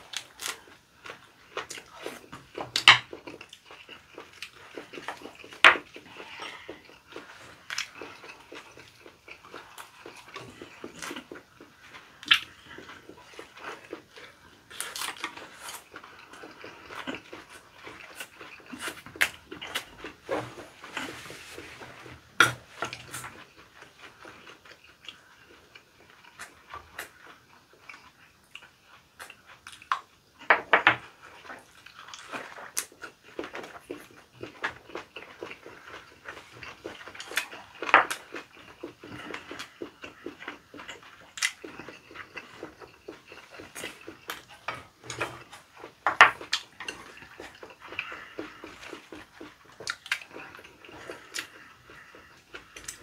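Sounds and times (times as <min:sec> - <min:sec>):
chewing and mouth smacking: 0:00.0 - 0:53.0.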